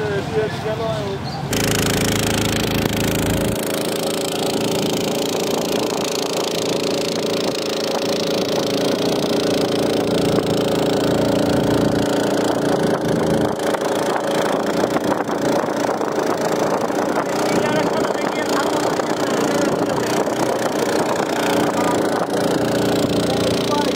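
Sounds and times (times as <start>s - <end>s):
boat engine running: 1.5s - 23.9s.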